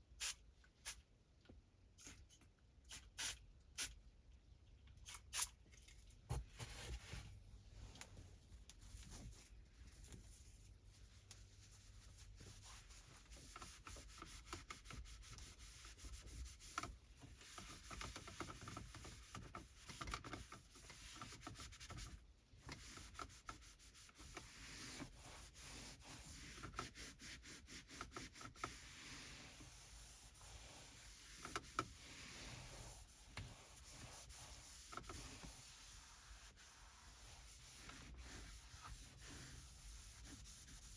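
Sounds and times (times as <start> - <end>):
cloth wiping surfaces: 6.3 - 40.9.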